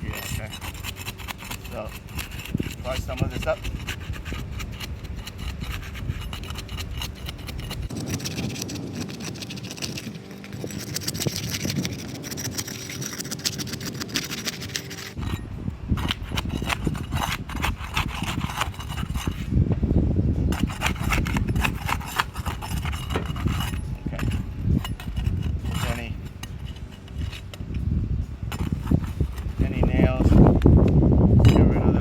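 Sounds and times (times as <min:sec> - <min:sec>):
pry bar scraping shingles: 0:00.0 - 0:19.5, 0:20.5 - 0:27.8, 0:28.5 - 0:30.5.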